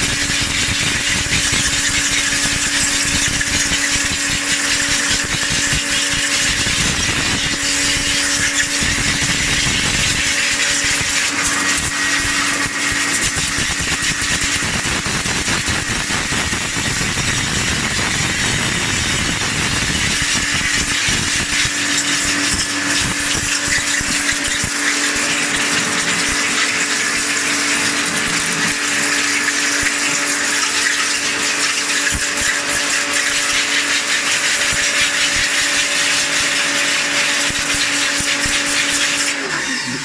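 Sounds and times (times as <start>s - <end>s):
machine humming: 0.0s - 40.0s.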